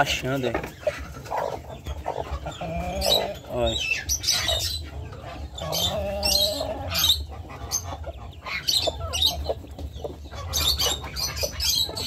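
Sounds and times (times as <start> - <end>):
ducklings peeping: 0.0 - 12.0
hen clucking: 0.0 - 12.0.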